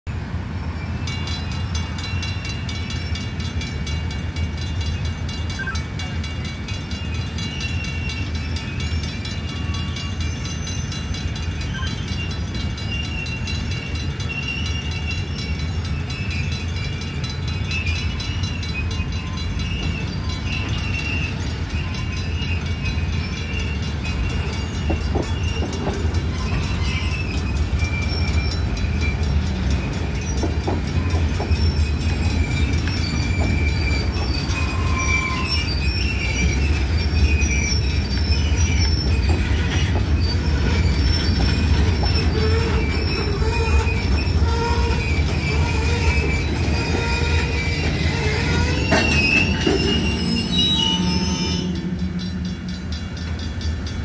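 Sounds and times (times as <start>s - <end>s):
steel wheels rumbling on rail: 0.1s - 54.0s
high wheel squeal: 0.6s - 54.0s.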